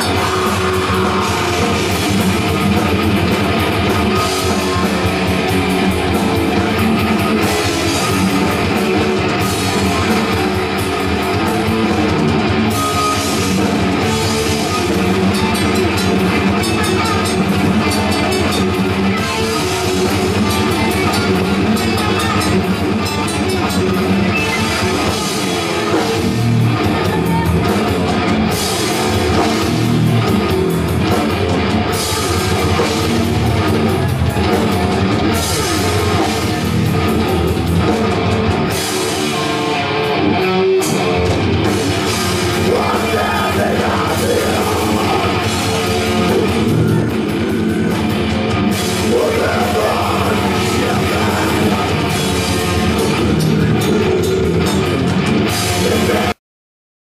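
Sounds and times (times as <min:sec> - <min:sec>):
live rock band playing: 0:00.0 - 0:56.4.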